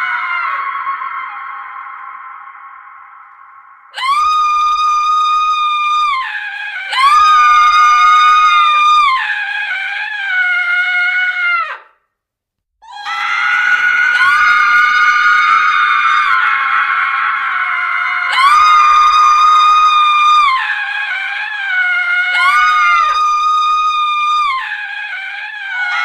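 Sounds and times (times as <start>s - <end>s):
woman screaming: 0.0s - 3.2s, 4.0s - 11.8s, 12.8s - 26.0s.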